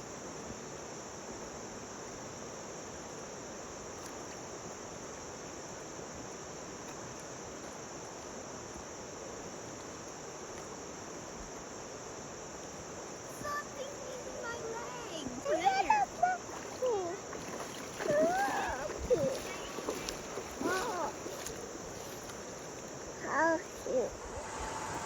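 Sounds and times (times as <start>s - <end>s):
insect chorus drone: 0.0s - 25.0s.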